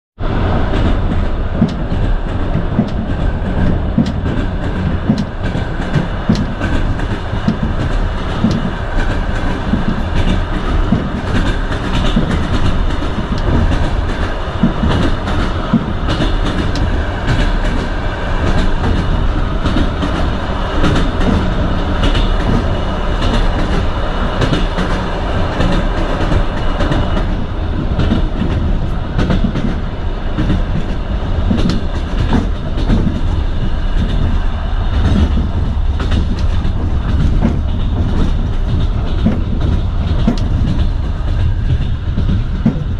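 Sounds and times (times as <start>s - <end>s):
train rumble: 0.2s - 42.9s
wheels clacking over rail joints: 0.6s - 42.9s.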